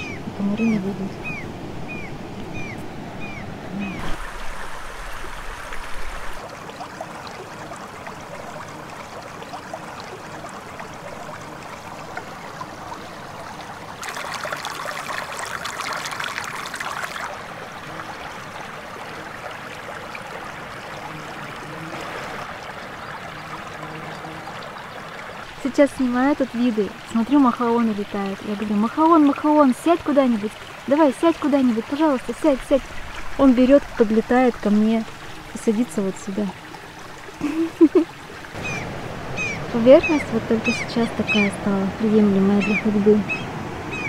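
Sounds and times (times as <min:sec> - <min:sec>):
stream running over stones: 0:00.0 - 0:44.0.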